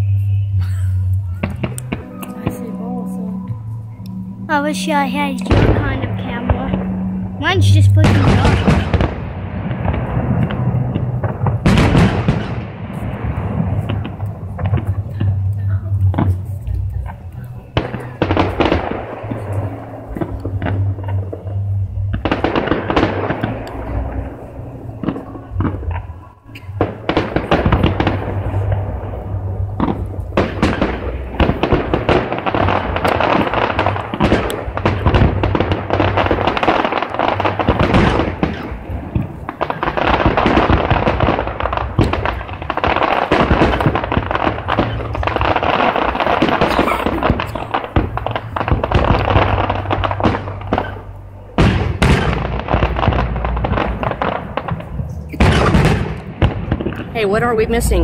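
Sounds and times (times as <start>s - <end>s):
music: 0.0s - 55.4s
fireworks bursting and crackling: 0.0s - 58.0s.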